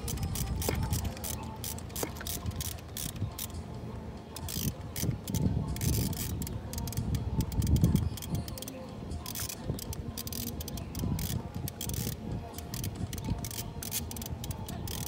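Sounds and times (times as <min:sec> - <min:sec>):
ratchet wrench clicking: 0:00.0 - 0:03.6, 0:04.3 - 0:15.0.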